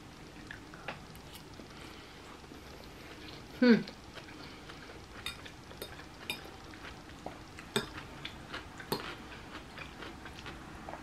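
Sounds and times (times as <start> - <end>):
quiet chewing: 0.2 - 11.0.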